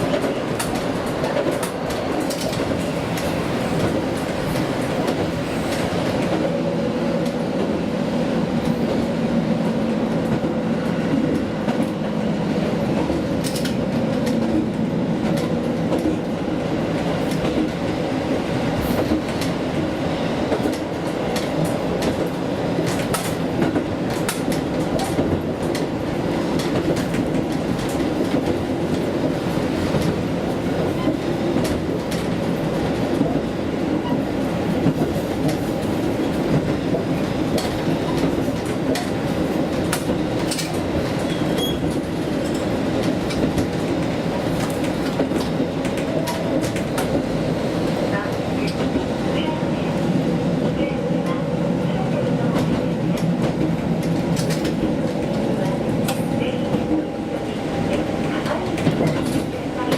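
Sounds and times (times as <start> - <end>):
railcar engine and wheels droning: 0.0 - 59.9.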